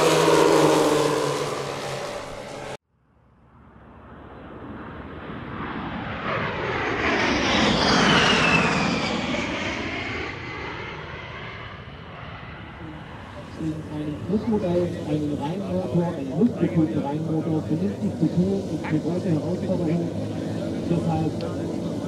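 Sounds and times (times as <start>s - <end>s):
model aircraft engines flying past: 0.0s - 22.0s.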